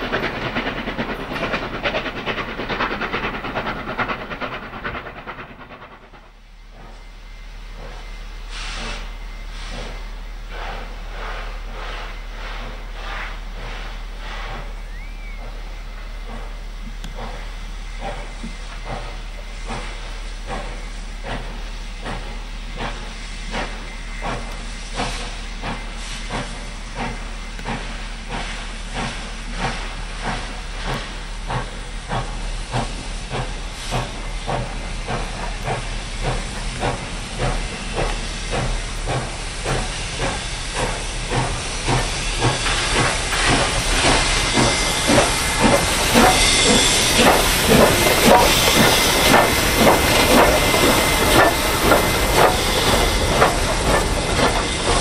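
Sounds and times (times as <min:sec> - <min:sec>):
steam hiss: 0:00.0 - 0:55.0
steam locomotive exhaust chuffs: 0:00.0 - 0:55.0.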